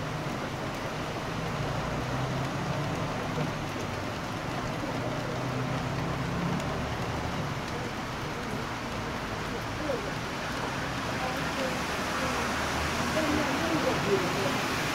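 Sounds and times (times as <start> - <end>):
heavy rain falling: 0.0 - 14.9
street traffic rumble: 0.0 - 14.9.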